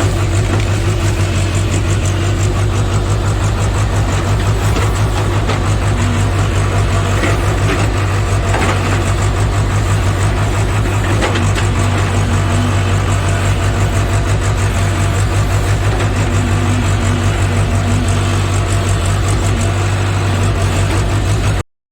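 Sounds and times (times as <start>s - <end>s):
diesel engine running: 0.0s - 21.6s.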